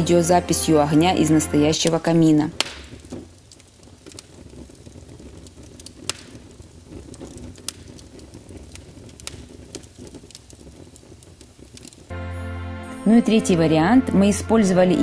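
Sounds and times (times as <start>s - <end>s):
wood fire crackling and popping: 0.0s - 13.2s.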